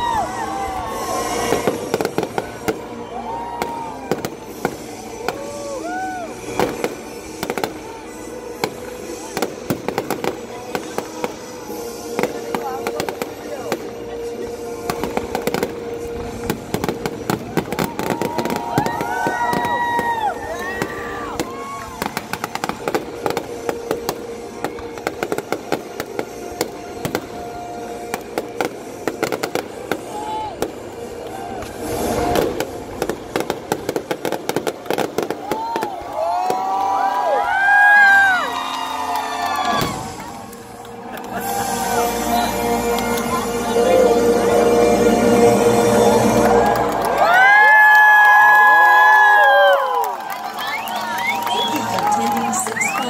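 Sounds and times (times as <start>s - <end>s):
fireworks bangs: 0.0s - 37.3s, 38.0s - 53.0s
show music with held notes: 0.0s - 47.9s
fireworks whistling: 0.0s - 53.0s.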